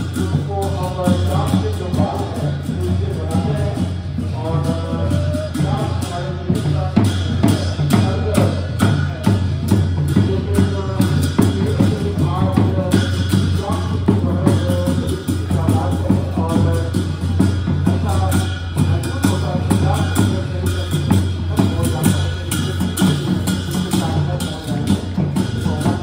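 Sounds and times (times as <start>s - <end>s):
music with drum beat: 0.0s - 26.0s.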